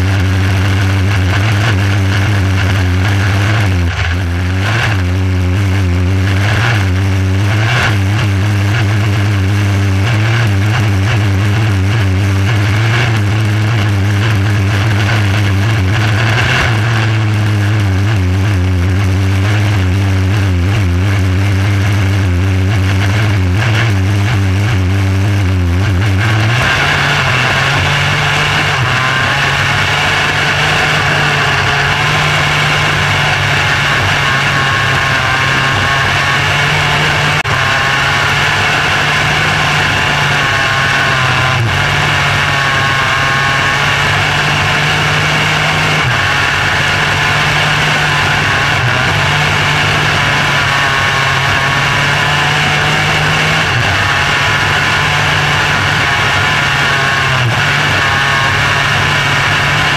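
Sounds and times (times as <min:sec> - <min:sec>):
racing car engine running hard: 0:00.0 - 0:59.9.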